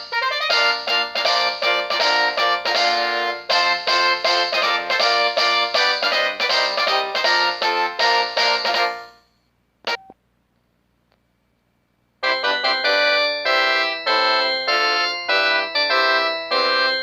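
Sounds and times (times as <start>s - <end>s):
phone ringtone melody: 0.0s - 9.3s, 12.2s - 17.0s.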